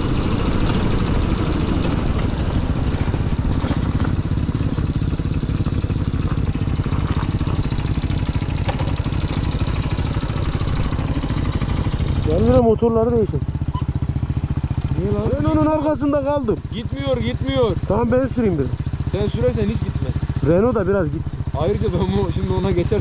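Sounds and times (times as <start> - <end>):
motorcycle engine rumbling: 0.0 - 23.0.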